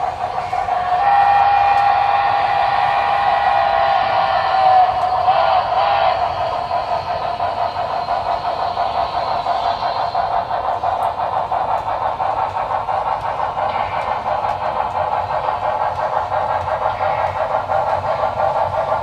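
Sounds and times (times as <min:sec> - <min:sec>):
model steam locomotive chuffing: 0:00.0 - 0:19.0.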